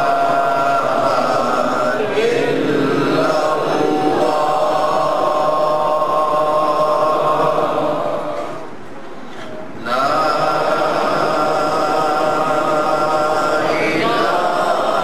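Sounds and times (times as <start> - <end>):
voices chanting held notes: 0.0 - 8.8, 9.6 - 15.0.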